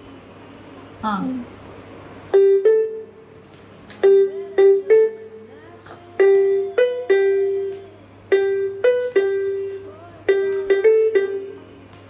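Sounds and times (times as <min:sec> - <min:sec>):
electronic keyboard slow melody: 0:02.3 - 0:12.0.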